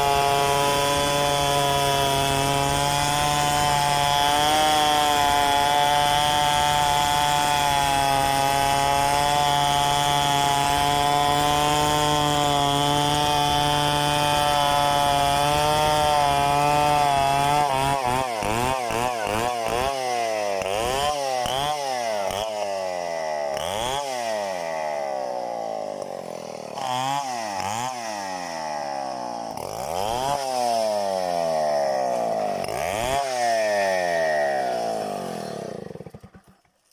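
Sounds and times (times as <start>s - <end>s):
chainsaw revving: 0.0s - 36.9s.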